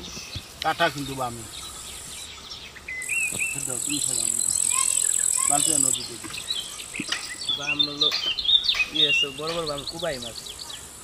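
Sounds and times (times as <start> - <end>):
insect buzzing: 0.5 - 11.0.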